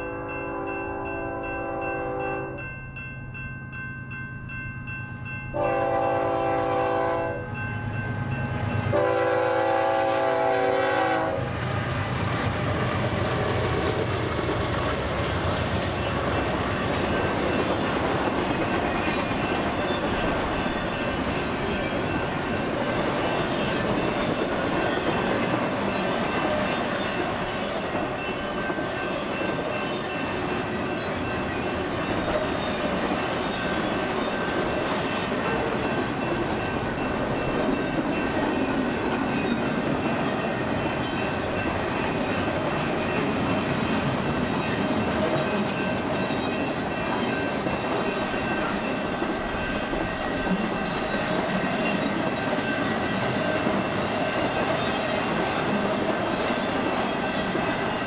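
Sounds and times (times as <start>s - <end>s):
train wheels rumbling and rattling: 8.3s - 58.0s.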